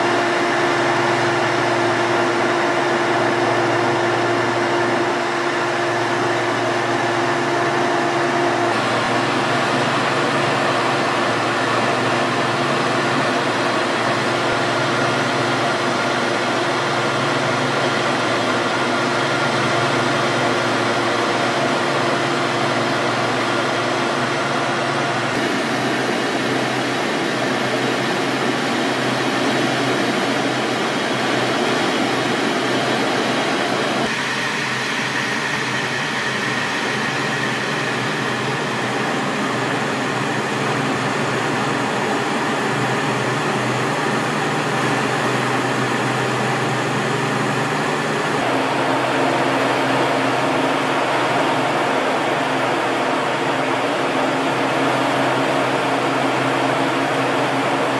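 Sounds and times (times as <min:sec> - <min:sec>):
jet cockpit air rushing: 0:00.0 - 0:57.9
jet engines: 0:00.0 - 0:57.9.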